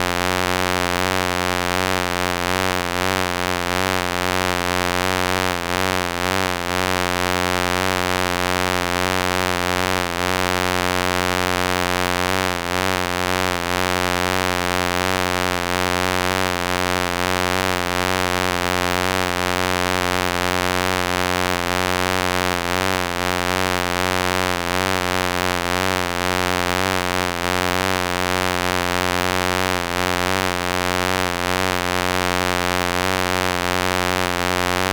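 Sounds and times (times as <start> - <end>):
wasp buzzing in flight: 0.0 - 34.9.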